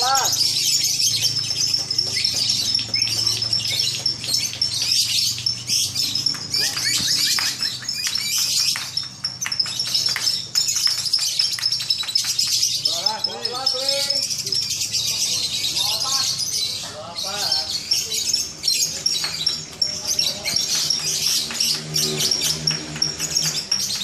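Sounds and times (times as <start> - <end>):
birds chattering: 0.0 - 24.0.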